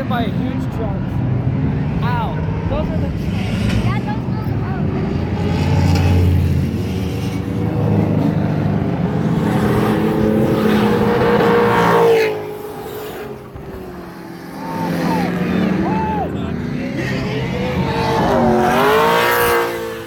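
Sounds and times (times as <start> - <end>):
car engine revving passing by: 1.3 - 20.0.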